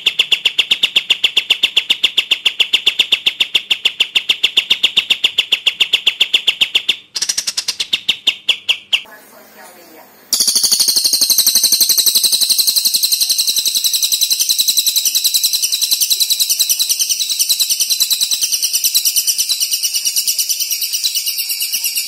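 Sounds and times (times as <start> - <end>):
songbird trilling: 0.0 - 9.1, 10.3 - 22.0.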